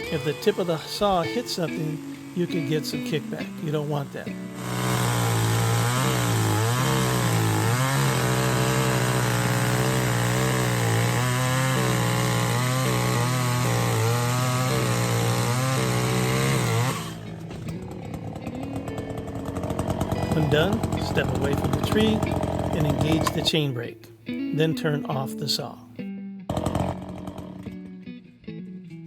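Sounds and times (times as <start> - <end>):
chainsaw cutting stump: 0.0 - 23.7, 26.5 - 28.0.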